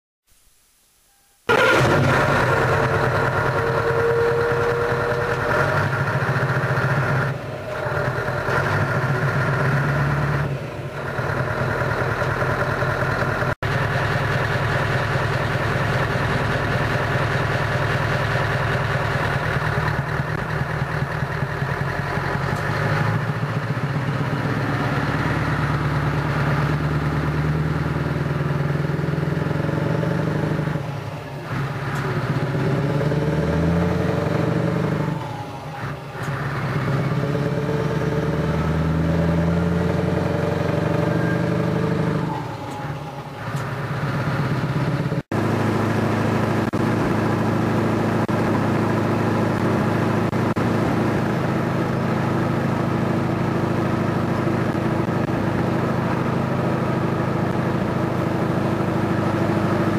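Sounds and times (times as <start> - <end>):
truck engine pulling away: 1.5 - 59.9.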